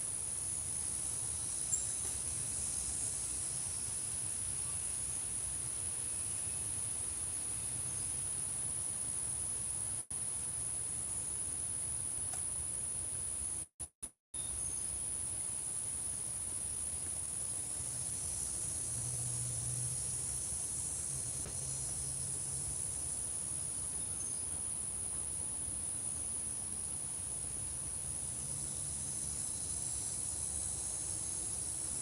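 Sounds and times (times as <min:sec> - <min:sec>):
insects trilling: 0:00.0 - 0:11.1, 0:14.4 - 0:32.0.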